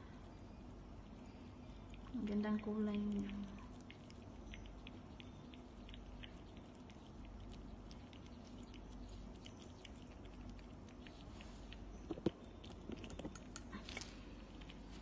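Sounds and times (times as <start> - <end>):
cats chewing and lapping: 0.0 - 15.0.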